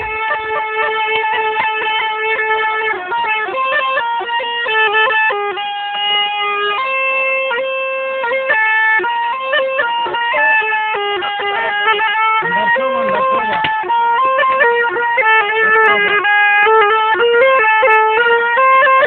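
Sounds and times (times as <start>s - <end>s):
shrill reedy folk melody: 0.0s - 19.0s.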